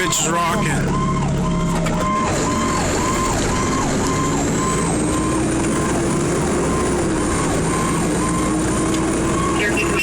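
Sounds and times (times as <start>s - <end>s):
fire engine siren yelping: 0.0s - 10.0s
road noise: 0.0s - 10.0s
truck engine rumble: 0.0s - 10.0s.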